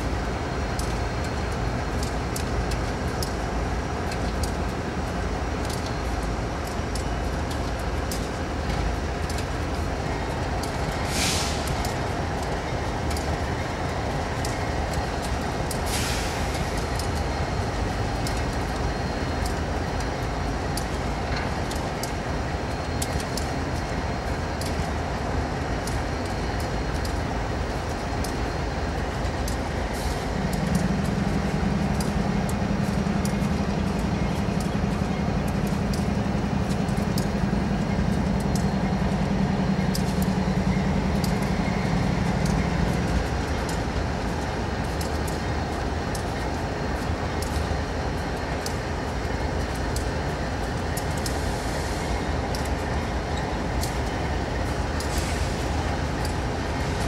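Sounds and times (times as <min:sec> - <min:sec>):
deep steady drone: 0:00.0 - 0:57.0
diesel locomotive running: 0:00.0 - 0:57.0.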